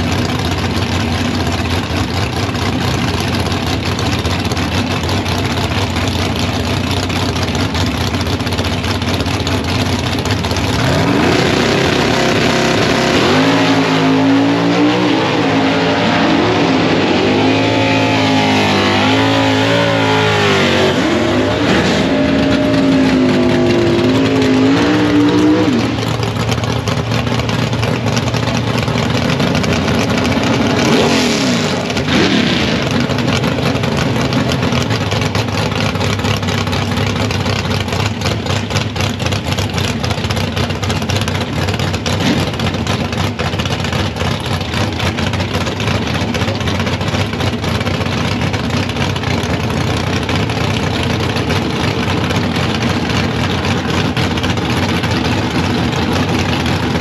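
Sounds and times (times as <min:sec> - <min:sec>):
drag racing engines revving: 0:00.0 - 0:57.0.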